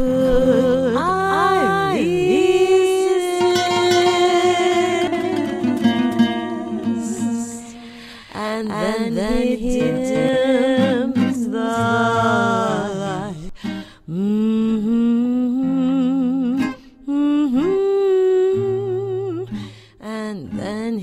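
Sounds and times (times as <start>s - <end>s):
soft guitar accompaniment: 0.0s - 21.0s
woman humming a melody: 0.0s - 21.0s.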